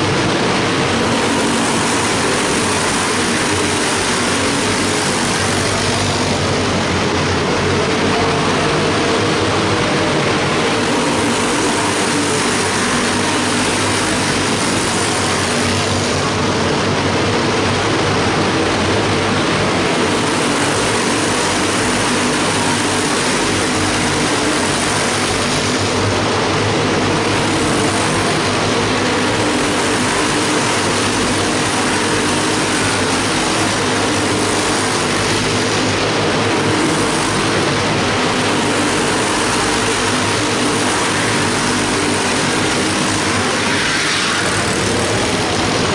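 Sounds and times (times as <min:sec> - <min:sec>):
small race car engines droning: 0:00.0 - 0:45.9.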